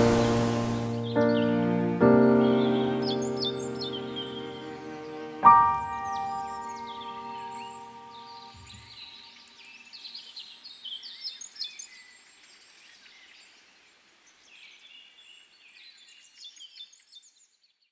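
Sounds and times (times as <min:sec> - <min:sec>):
faint hiss: 0:00.0 - 0:15.7.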